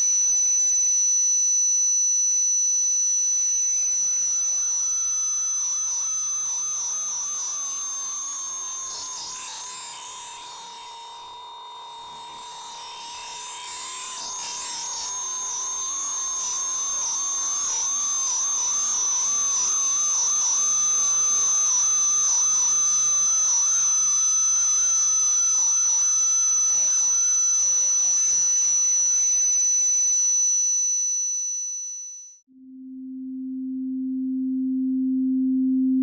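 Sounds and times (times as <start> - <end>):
steady high-pitched tones: 0.0 - 32.4.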